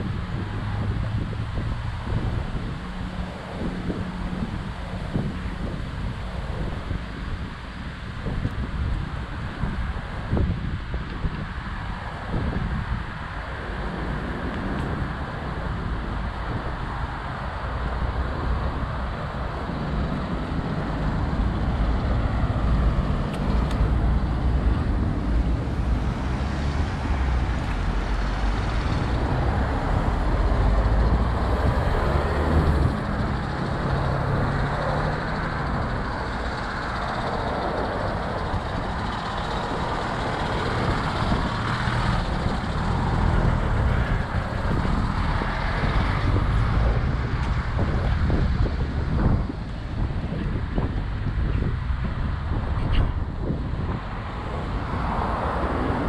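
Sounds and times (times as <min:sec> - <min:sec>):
heavy vehicle engine rumble: 0:00.0 - 0:56.0
hum of passing traffic: 0:00.0 - 0:56.0.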